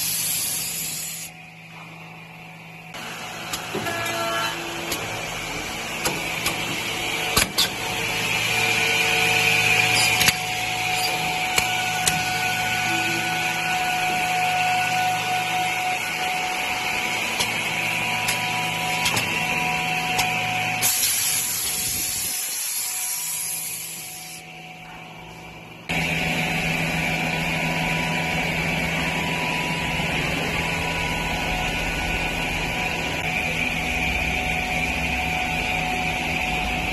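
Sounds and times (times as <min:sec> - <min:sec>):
machine humming: 0:00.0 - 0:36.9.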